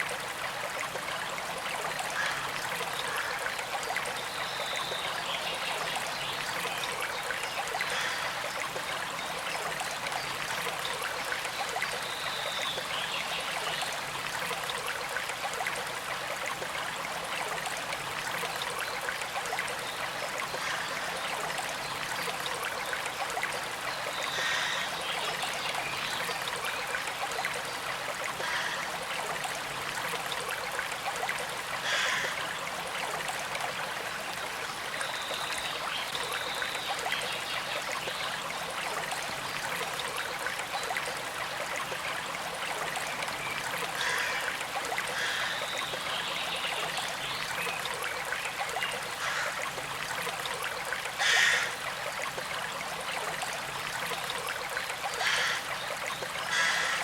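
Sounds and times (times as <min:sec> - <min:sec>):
creek flowing and trickling: 0:00.0 - 0:57.0.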